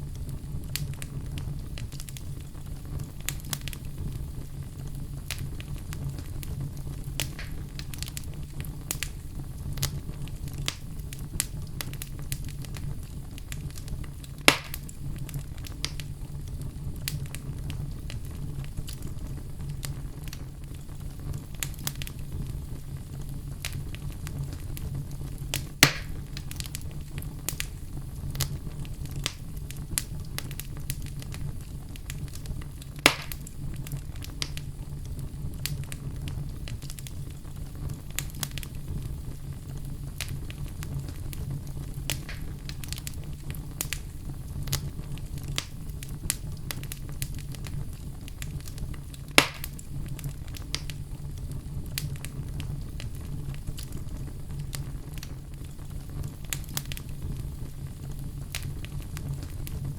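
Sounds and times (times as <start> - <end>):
sharp fire pops: 0.0 - 59.9
wood fire crackling: 0.0 - 59.9.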